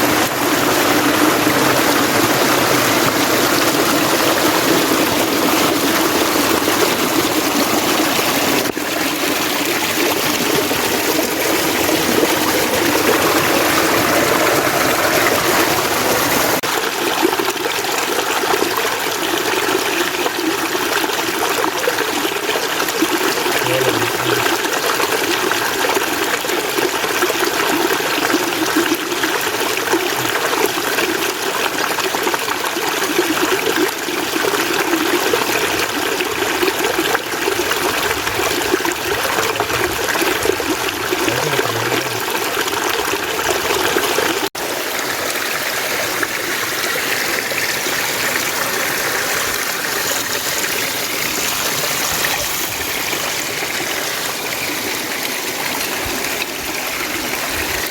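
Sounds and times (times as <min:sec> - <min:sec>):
stream water rushing over rocks: 0:00.0 - 0:57.9.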